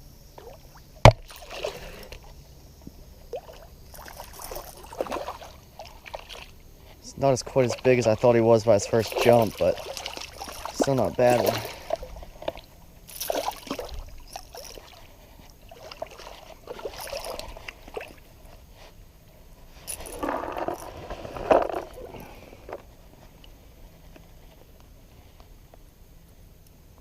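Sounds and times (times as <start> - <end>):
water splashing and sloshing: 0.4 - 23.6.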